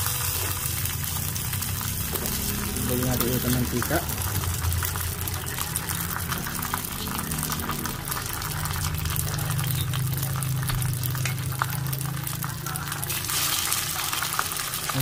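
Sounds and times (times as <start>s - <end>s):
dumplings sizzling in hot oil: 0.0s - 15.0s.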